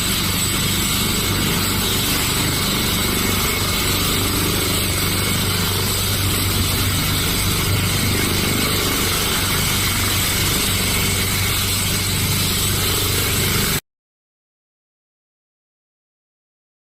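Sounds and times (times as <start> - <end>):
helicopter engine and rotor: 0.0 - 13.8
thin high whine: 0.0 - 13.8.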